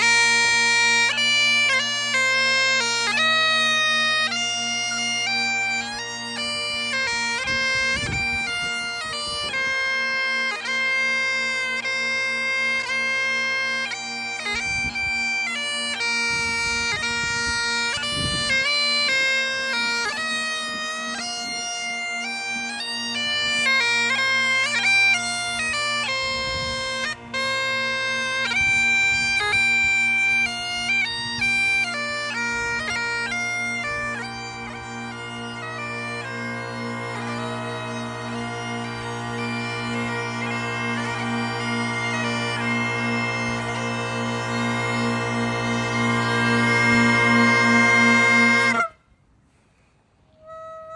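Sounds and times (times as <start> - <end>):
bagpipes playing a melody: 0.0 - 49.0.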